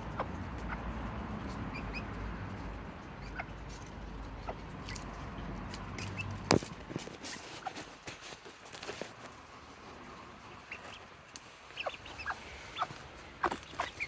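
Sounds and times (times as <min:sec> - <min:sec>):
chickens clucking and peeping: 0:00.0 - 0:06.7, 0:09.3 - 0:14.0.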